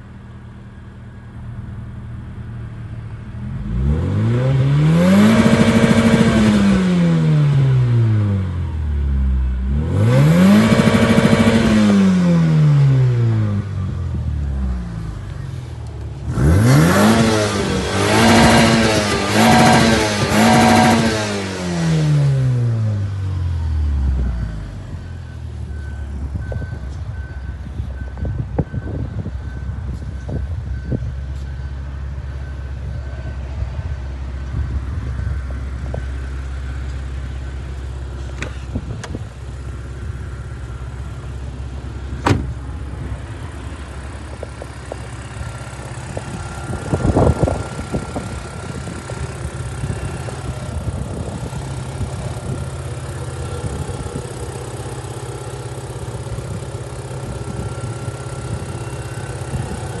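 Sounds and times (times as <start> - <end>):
car engine idling: 0.0 - 4.0, 7.8 - 21.1, 22.3 - 60.0.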